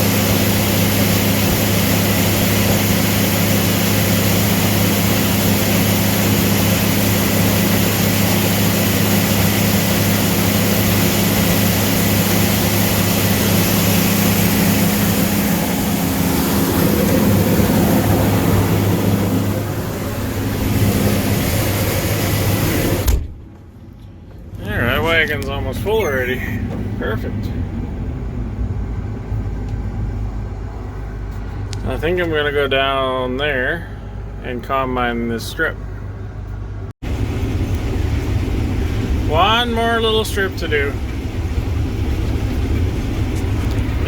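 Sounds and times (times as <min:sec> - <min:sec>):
machinery noise: 0:00.0 - 0:23.2, 0:24.6 - 0:33.7, 0:37.0 - 0:44.0
combine harvester engine hum: 0:00.0 - 0:44.0.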